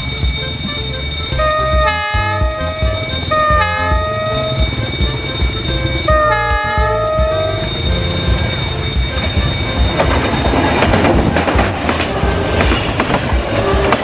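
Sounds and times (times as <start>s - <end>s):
locomotive horn blasts: 0.0s - 11.3s
low rhythmic pulse: 0.0s - 14.0s.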